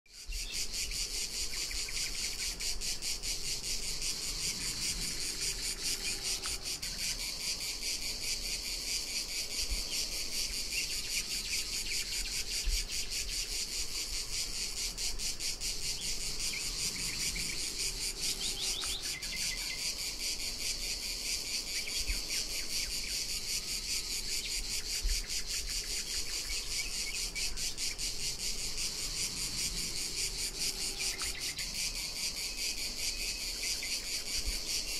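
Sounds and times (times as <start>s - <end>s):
cicadas buzzing: 0.1s - 34.9s.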